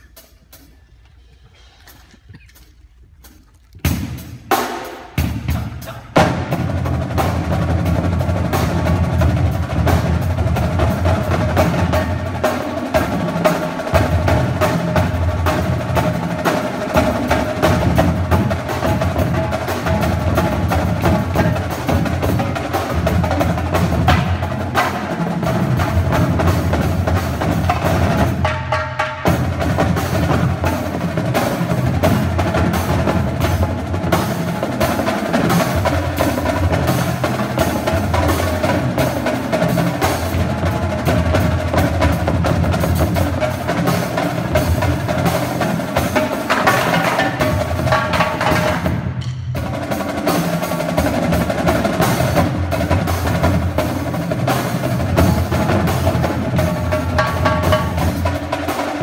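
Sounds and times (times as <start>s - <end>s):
drumline drumming: 0.0s - 59.0s.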